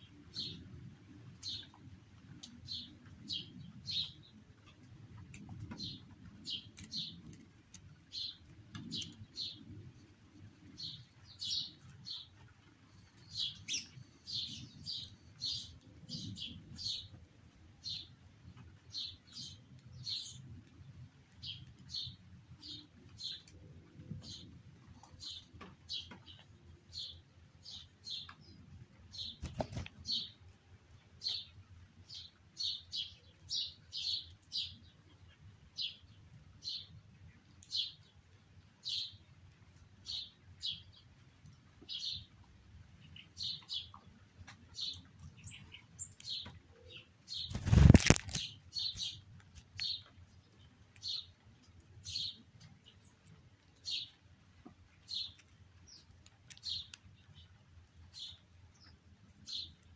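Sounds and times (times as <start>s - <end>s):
small bird chirping: 2.4s - 4.9s, 5.6s - 9.8s, 10.7s - 17.2s, 17.8s - 23.6s, 24.2s - 30.5s, 31.2s - 39.3s, 39.9s - 42.4s, 43.0s - 59.9s.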